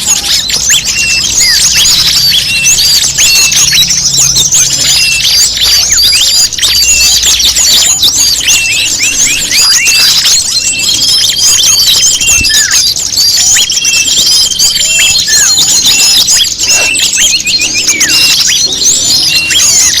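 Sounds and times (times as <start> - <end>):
songbird chorus: 0.0 - 20.0
steady bird trill: 0.0 - 20.0.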